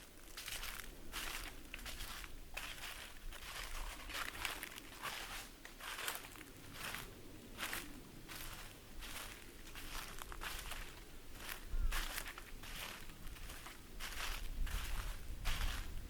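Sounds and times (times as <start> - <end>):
footsteps on dry leaves: 0.0 - 16.0.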